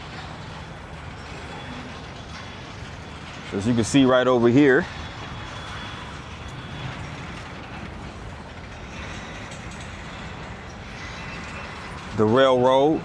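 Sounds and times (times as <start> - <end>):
freight train passing: 0.0 - 13.0.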